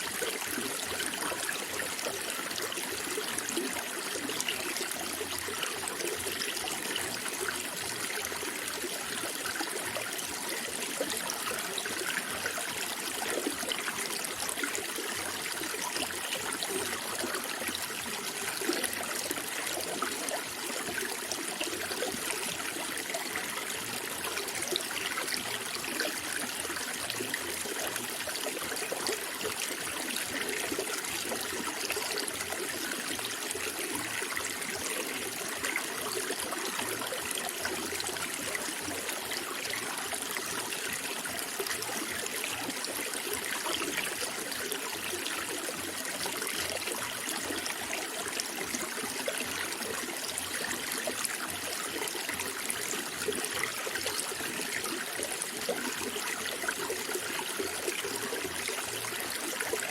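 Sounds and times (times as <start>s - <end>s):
stream trickling and burbling: 0.0s - 59.9s.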